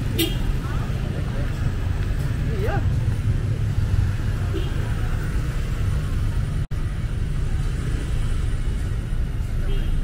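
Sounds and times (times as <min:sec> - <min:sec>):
low rumble of traffic engines: 0:00.0 - 0:10.0.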